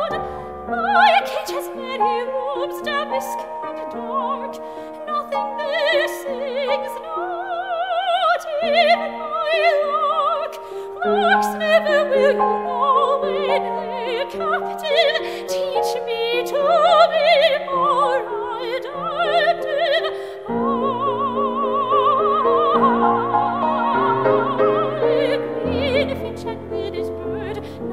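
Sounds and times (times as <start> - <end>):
grand piano accompaniment: 0.0 - 27.9
operatic soprano singing: 0.0 - 27.9.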